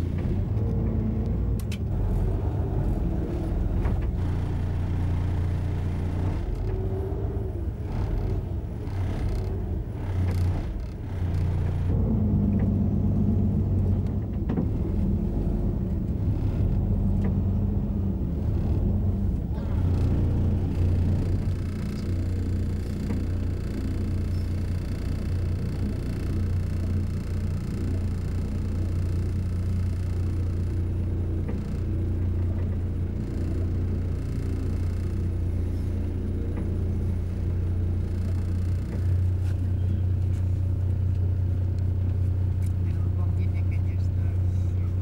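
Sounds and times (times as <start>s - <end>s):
vehicle engine rumble: 0.0s - 45.0s.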